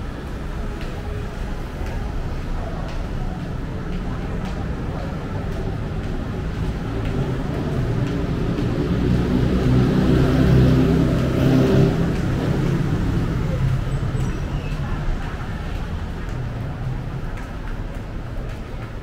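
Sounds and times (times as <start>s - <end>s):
road traffic: 0.0s - 19.0s
street voices: 0.0s - 19.0s.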